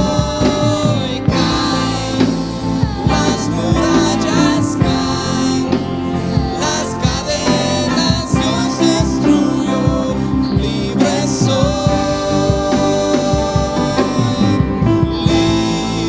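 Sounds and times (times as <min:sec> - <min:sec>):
held instrumental chords: 0:00.0 - 0:16.0
steady drum beat: 0:00.0 - 0:16.0.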